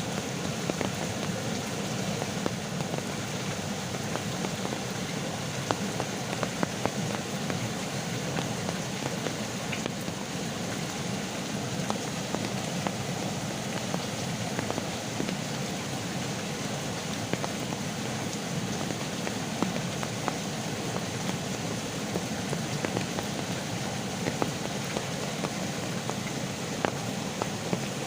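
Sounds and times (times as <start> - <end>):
heavy rain falling: 0.0 - 28.0
raindrops tapping on surfaces: 0.0 - 28.0.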